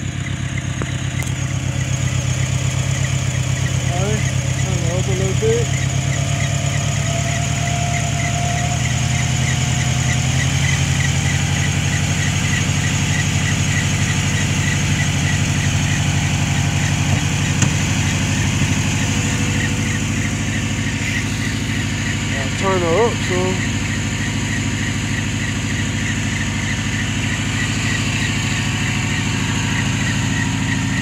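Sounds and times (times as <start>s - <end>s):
pickup truck engine idling: 0.0s - 31.0s.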